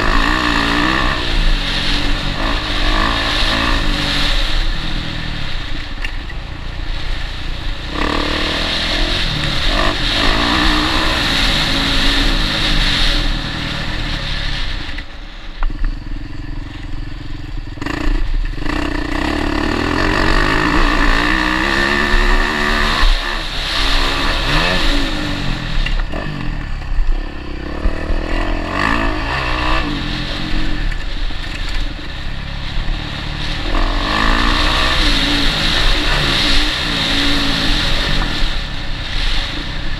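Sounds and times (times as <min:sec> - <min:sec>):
motocross bike engine revving: 0:00.0 - 0:06.1, 0:06.9 - 0:39.9.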